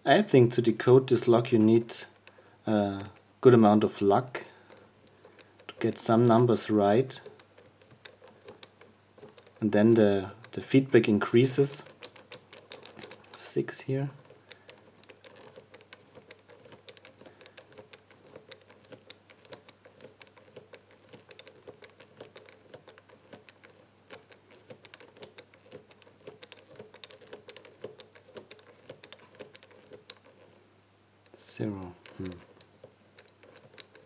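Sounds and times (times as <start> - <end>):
bike lock wheels clicking: 4.7 - 30.6, 31.8 - 34.0.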